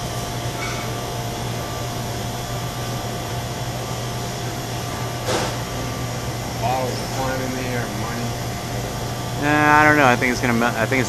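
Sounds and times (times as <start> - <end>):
faint steady whine: 0.0 - 11.0
low machine drone: 0.0 - 11.0.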